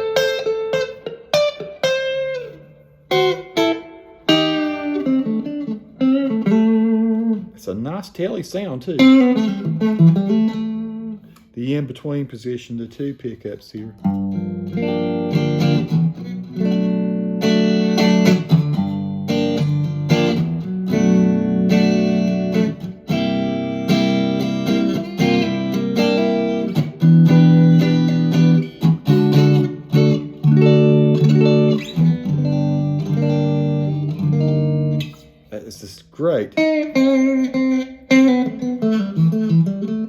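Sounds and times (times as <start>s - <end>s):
electric guitar playing blues-rock: 0.0s - 11.9s, 13.8s - 40.0s.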